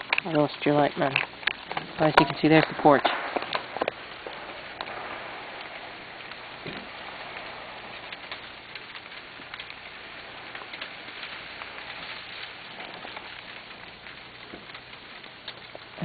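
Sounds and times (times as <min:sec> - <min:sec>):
ice pellets ticking on camera: 0:00.0 - 0:16.0.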